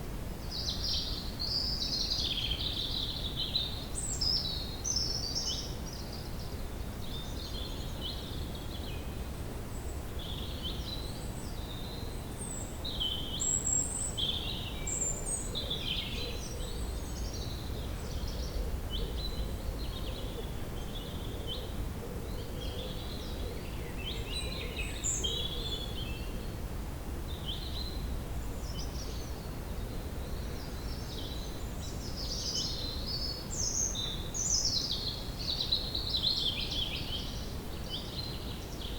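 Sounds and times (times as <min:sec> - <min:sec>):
songbirds chirping: 0:00.3 - 0:38.9.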